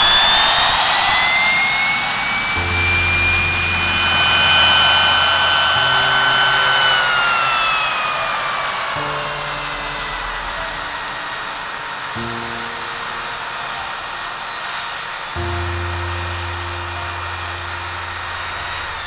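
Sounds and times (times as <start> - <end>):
high turbine whine: 0.0 - 19.0
jet engine roar: 0.0 - 19.0.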